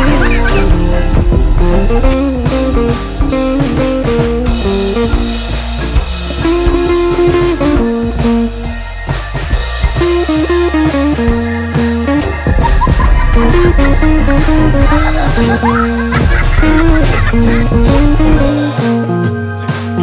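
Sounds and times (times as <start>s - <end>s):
blues guitar with drums: 0.0s - 20.0s.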